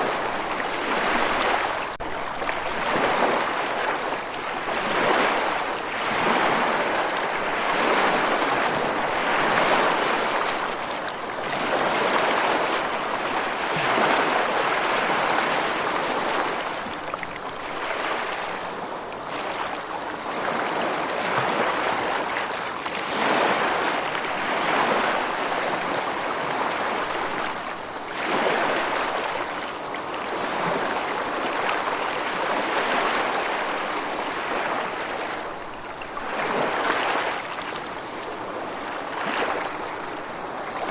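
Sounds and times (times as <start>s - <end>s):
rushing water: 0.0s - 40.9s.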